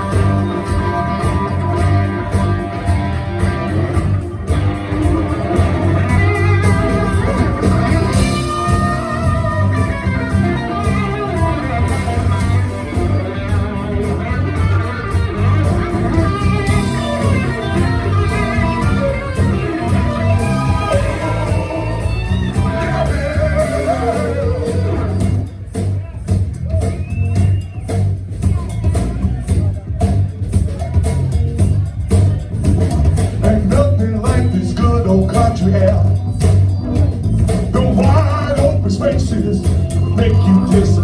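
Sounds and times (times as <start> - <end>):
electric guitar lead bending notes: 0.0 - 26.0, 30.7 - 41.0
blues band playing: 0.0 - 41.0.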